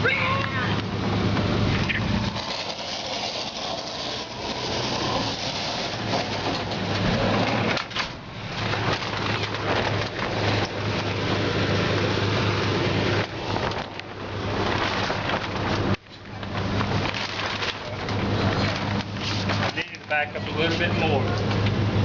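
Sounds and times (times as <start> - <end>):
water spraying onto engine: 0.2 - 22.0.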